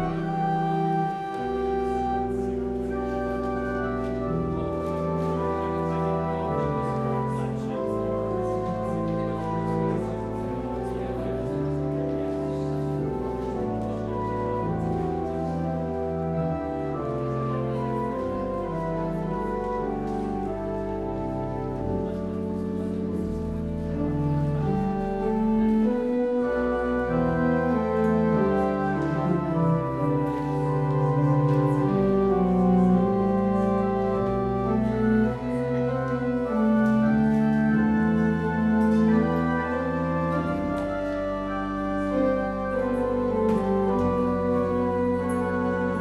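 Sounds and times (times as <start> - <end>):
organ playing hymn prelude: 0.0 - 46.0.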